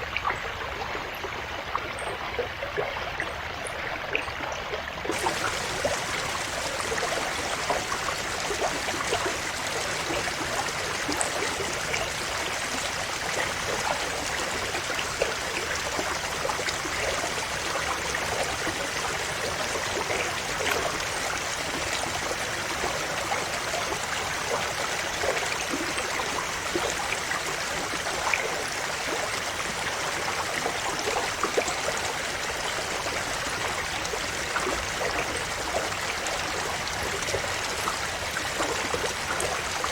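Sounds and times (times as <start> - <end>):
small splashes and gurgles: 0.0 - 39.9
river water rushing: 5.0 - 39.9.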